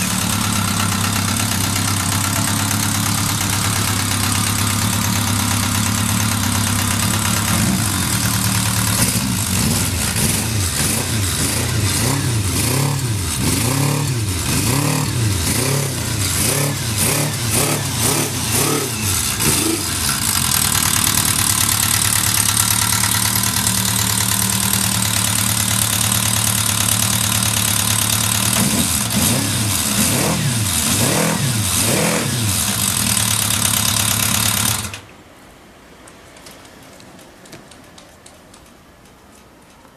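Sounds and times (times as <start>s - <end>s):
motorcycle engine revving and idling: 0.0s - 35.1s.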